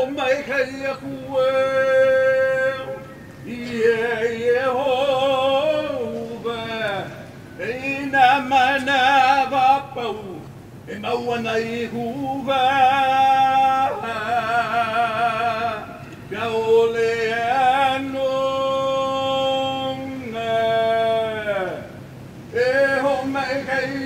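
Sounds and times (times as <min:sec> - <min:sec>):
man chanting: 0:00.0 - 0:24.0.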